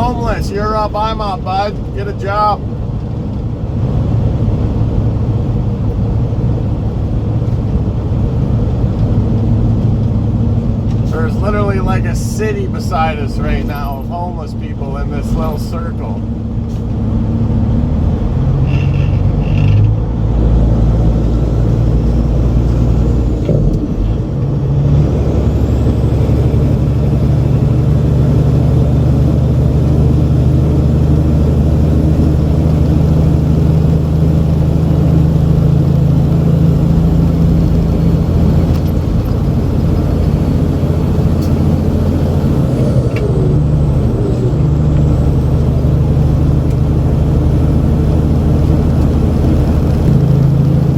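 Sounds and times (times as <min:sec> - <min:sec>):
truck diesel engine running: 0:00.0 - 0:50.9.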